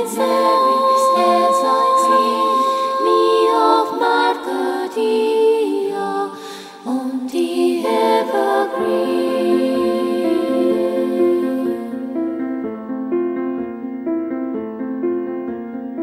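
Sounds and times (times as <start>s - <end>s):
wordless choir singing chords: 0.0s - 13.5s.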